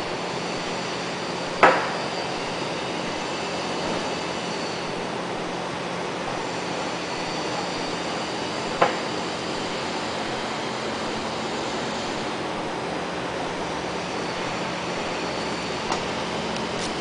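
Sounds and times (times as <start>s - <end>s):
workshop background rushing noise: 0.0s - 17.0s.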